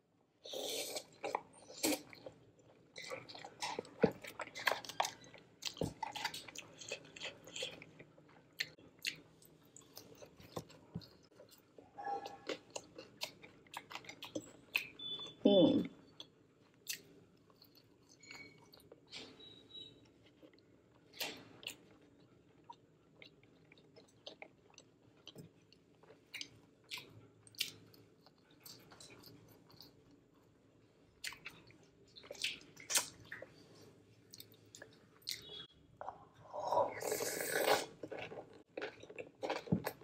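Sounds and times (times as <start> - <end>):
chewing and crunching: 0.6 - 15.3, 16.1 - 30.5, 37.0 - 40.0.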